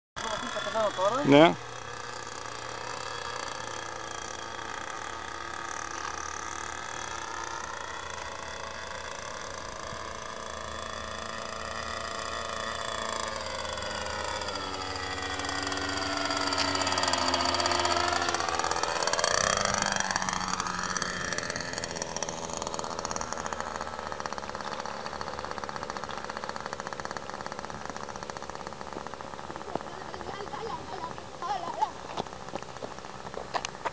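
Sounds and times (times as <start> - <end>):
model aircraft motor whine: 0.2 - 33.9.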